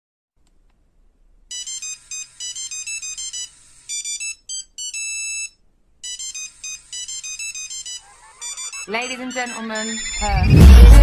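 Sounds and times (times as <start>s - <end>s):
high-pitched electronic ringtone melody: 1.5s - 11.0s.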